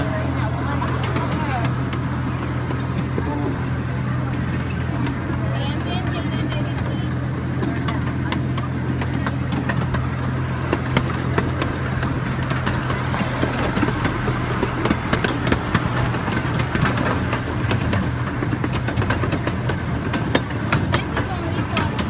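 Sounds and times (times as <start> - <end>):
train cars clicking and rattling: 0.0 - 22.0
train engine hum: 0.0 - 22.0.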